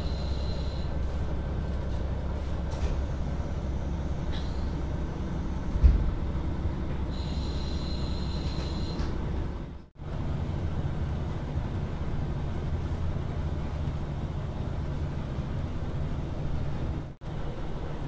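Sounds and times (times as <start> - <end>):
diesel engine drone: 0.0 - 18.0
wheels rumbling on rails: 0.0 - 18.0.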